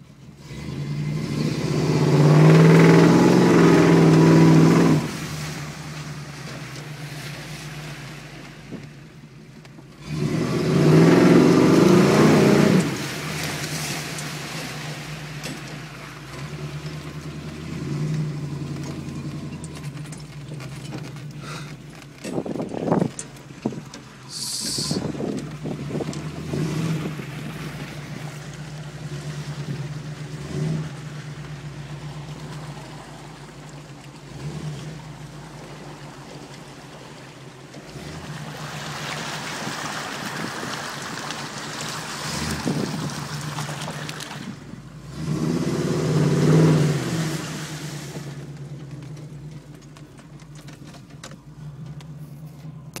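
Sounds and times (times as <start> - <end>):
truck engine revving: 0.0 - 8.4, 9.9 - 23.1, 24.2 - 50.7
truck rushing through mud and water: 0.0 - 53.0.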